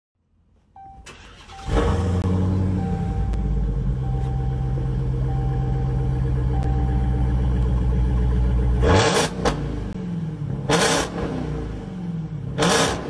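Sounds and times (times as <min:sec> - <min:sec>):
car engine starting and idling: 0:00.7 - 0:13.0.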